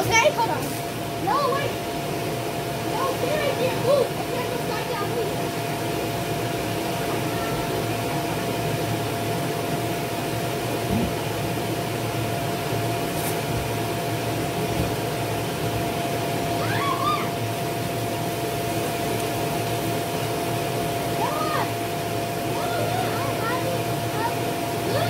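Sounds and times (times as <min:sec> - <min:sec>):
air blower whooshing hum: 0:00.0 - 0:25.0.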